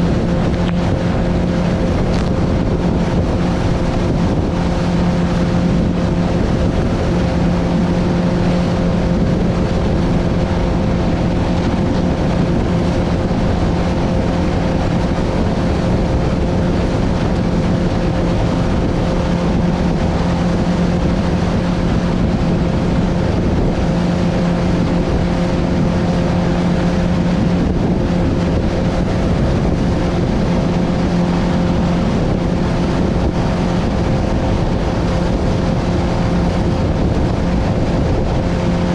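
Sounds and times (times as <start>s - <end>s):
boat motor running: 0.0s - 38.9s
wind and water rushing: 0.0s - 38.9s.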